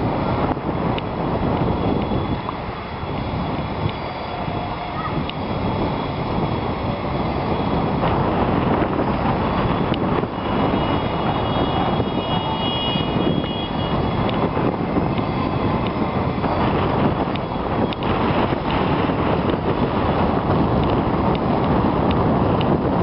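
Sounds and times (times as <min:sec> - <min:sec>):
high motor whine: 0:00.0 - 0:21.9
drone propellers buzzing: 0:00.0 - 0:22.9
wind noise on microphone: 0:00.0 - 0:23.0.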